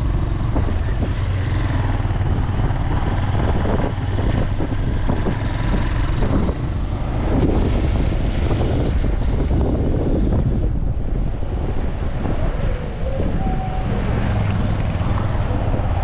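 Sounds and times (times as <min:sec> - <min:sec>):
engine and road rumble: 0:00.0 - 0:16.0
wind buffeting microphone: 0:00.0 - 0:16.0.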